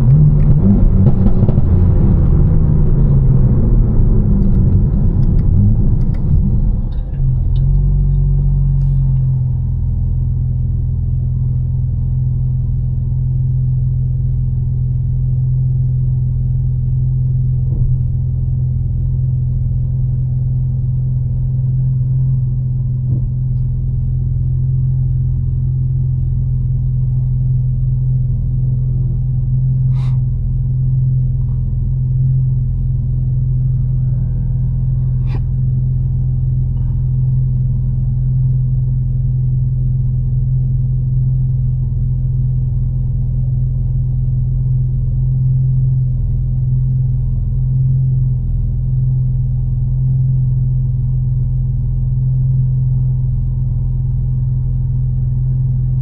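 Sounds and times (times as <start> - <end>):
car engine cruising drone: 0.0 - 56.0.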